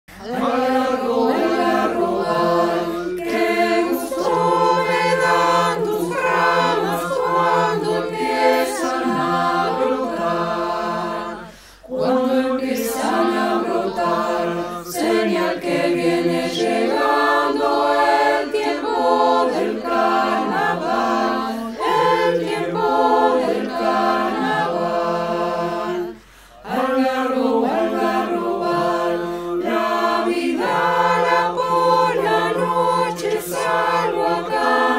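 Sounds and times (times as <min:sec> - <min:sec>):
mixed choir singing a cappella: 0:00.1 - 0:34.9.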